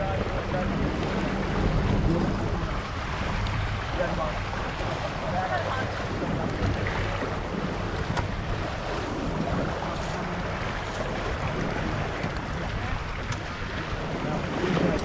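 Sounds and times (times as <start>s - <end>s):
water running past hull: 0.0s - 15.0s
wind on microphone: 0.0s - 15.0s.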